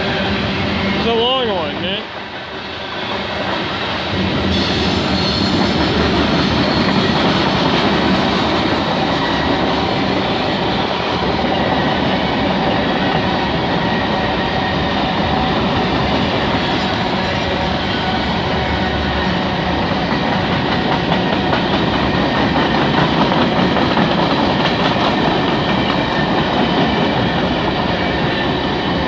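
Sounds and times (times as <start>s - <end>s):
freight train wheels clattering: 3.2s - 29.0s.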